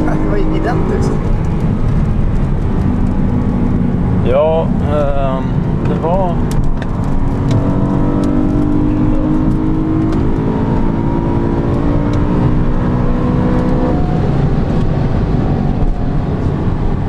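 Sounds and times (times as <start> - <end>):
car engine accelerating: 0.0 - 17.0
road and wind noise: 0.0 - 17.0.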